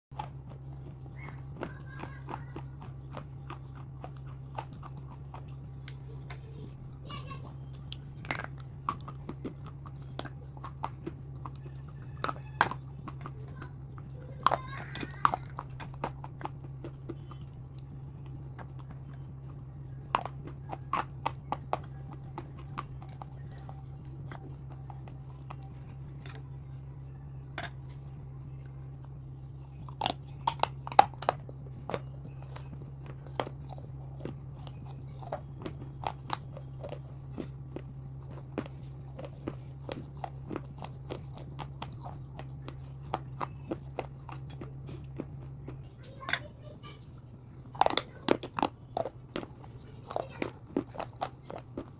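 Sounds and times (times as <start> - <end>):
chewing: 0.1 - 51.9
steady low hum: 0.1 - 51.9.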